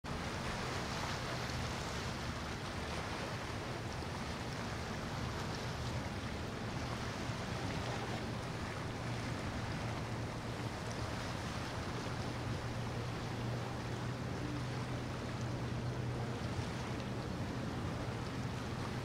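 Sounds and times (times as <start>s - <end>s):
choppy water: 0.0s - 19.0s
wind: 0.0s - 19.0s
boat engine drone: 0.1s - 19.0s.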